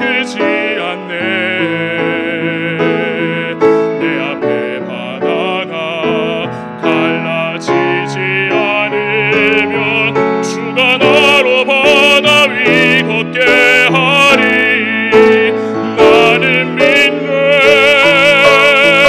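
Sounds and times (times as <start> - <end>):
man singing with vibrato: 0.0 - 19.0
piano accompaniment: 0.0 - 19.0.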